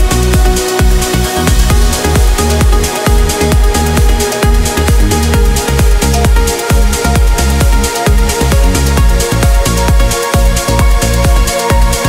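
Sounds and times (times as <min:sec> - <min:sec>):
trance music: 0:00.0 - 0:12.0.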